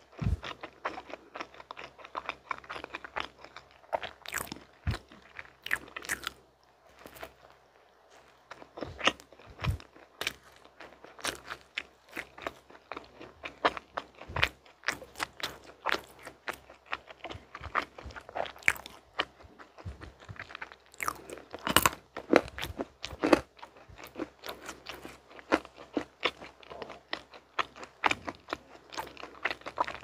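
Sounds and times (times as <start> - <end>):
soft chewing crunches: 0.0 - 30.0.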